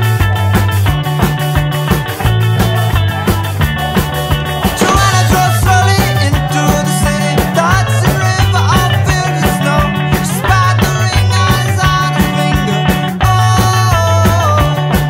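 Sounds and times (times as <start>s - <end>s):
rock song with drums and guitar: 0.0s - 15.0s.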